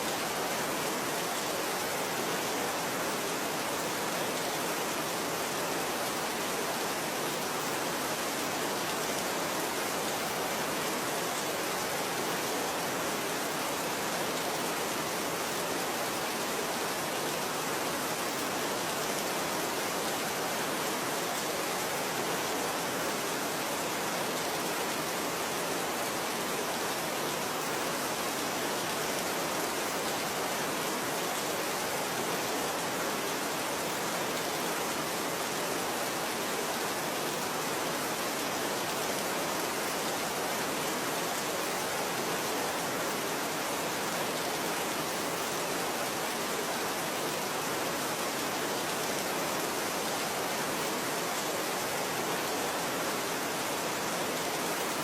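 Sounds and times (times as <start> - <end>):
steady even rain: 0.0 - 55.0.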